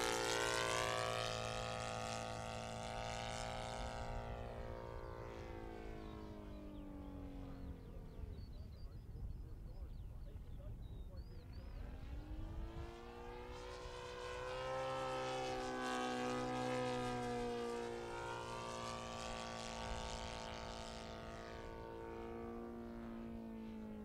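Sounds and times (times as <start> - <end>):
model plane engine at high throttle: 0.0 - 24.0.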